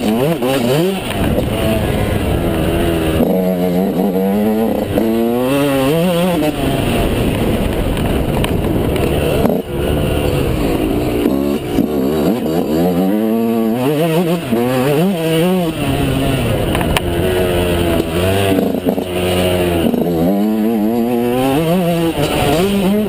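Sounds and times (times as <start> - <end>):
motorcycle engine revving hard: 0.0 - 23.0.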